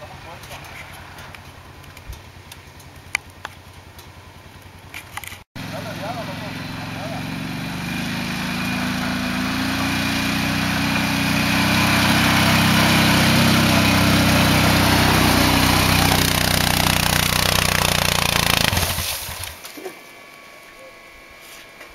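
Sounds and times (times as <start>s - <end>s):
quad bike engine running: 0.0s - 19.9s.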